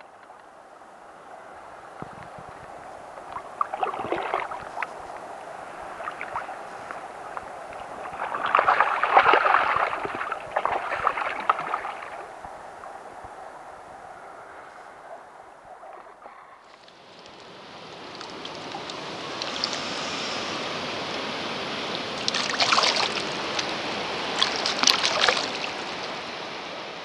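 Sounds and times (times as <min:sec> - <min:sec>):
river water splashing: 0:00.0 - 0:27.0.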